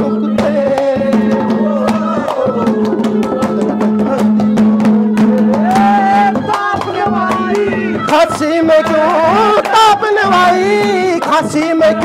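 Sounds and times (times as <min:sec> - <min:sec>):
quick hand drum strokes: 0:00.0 - 0:12.0.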